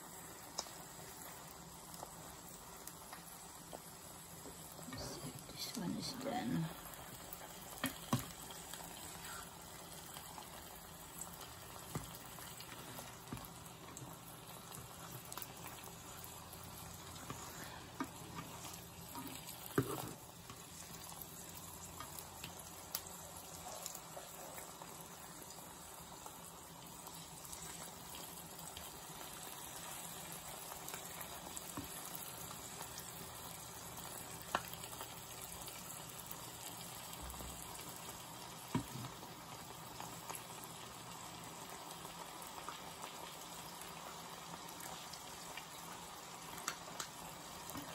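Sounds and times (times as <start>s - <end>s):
ham and eggs sizzling in a pan: 0.0s - 47.9s.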